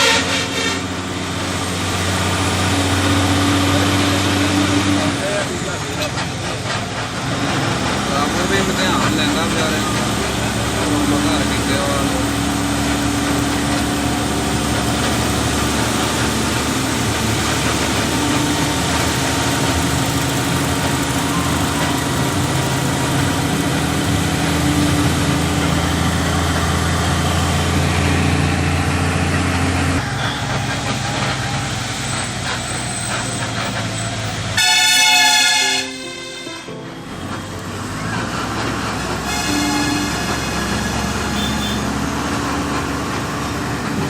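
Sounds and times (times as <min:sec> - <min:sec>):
vehicle engine running: 0:00.0 - 0:35.2, 0:36.8 - 0:44.0
road noise: 0:00.0 - 0:44.0.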